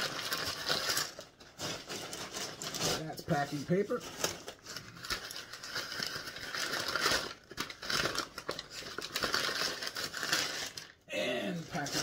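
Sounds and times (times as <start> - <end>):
packing paper crumpling: 0.0 - 12.0.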